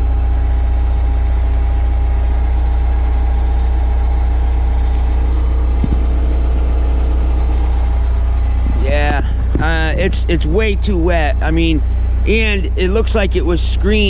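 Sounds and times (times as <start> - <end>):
skid steer engine running: 0.0 - 14.0.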